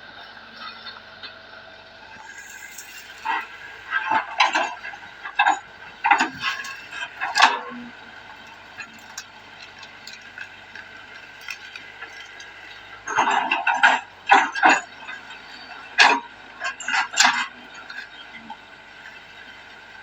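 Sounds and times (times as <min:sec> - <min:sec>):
excavator mechanical hum: 0:00.0 - 0:20.0
excavator clanks and knocks: 0:00.2 - 0:20.0.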